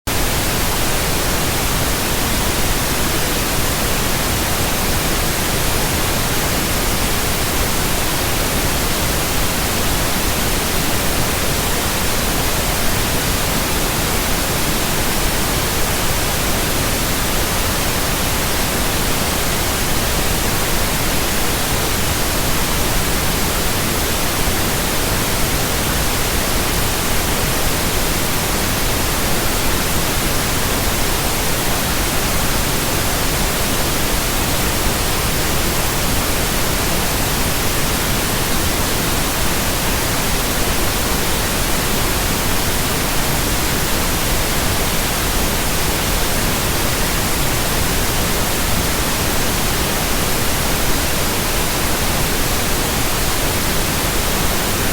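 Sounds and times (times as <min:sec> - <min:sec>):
pink noise hiss: 0:00.1 - 0:54.9.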